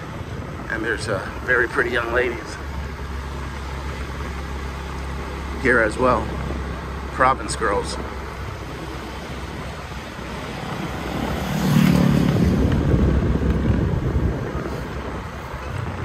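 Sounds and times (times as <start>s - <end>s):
motor scooter running: 0.0s - 16.0s.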